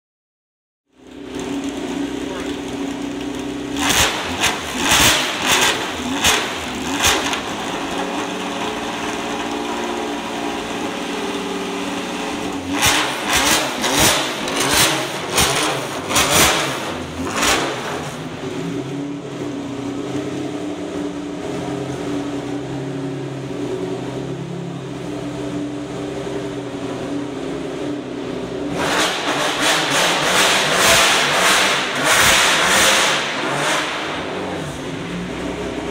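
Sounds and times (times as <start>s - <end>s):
racing engine idling and revving: 0.9s - 35.9s.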